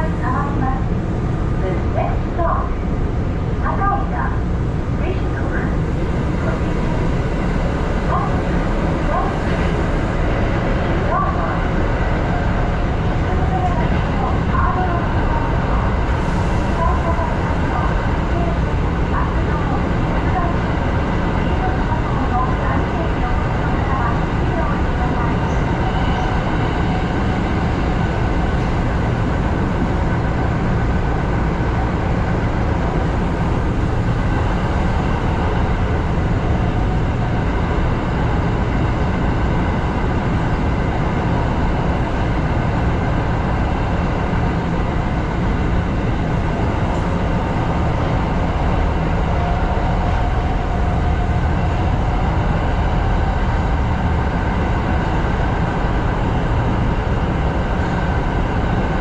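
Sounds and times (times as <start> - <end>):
train rumbling through tunnel: 0.0 - 59.0.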